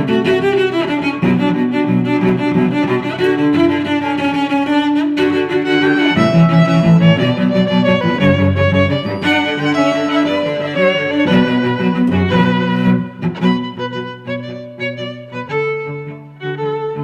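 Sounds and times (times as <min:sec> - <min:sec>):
bowed strings playing slow notes: 0:00.0 - 0:17.0.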